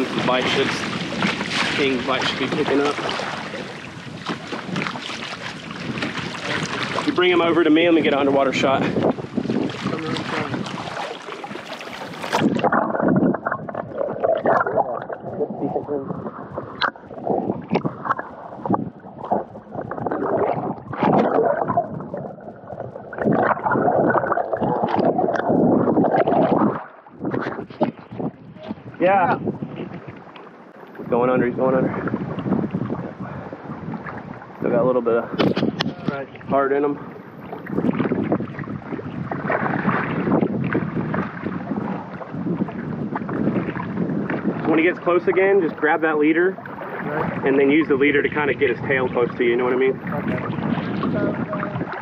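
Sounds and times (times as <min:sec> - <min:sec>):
seawater sloshing and gurgling: 0:00.0 - 0:52.0
water splashes: 0:00.0 - 0:52.0
wind buffeting microphone: 0:00.0 - 0:52.0.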